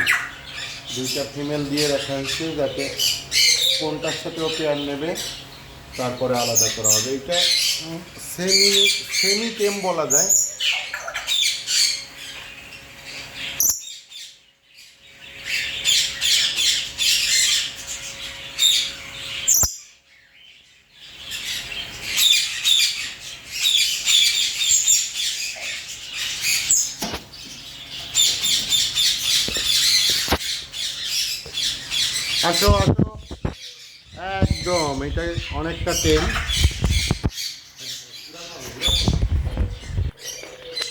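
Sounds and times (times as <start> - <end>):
bird squawks: 0.0 - 14.4, 15.1 - 40.9
birds chirping and twittering: 0.0 - 40.9.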